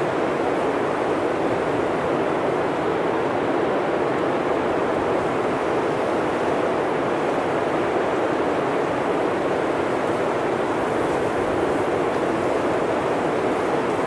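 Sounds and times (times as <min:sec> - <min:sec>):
blizzard wind through forest: 0:00.0 - 0:14.0.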